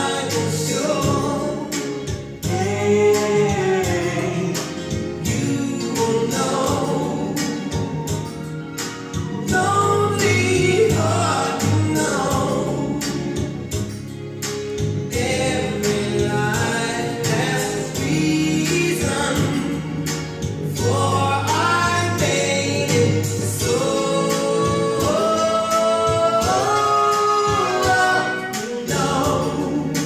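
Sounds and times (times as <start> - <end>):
choral singing from vinyl record: 0.0 - 30.0.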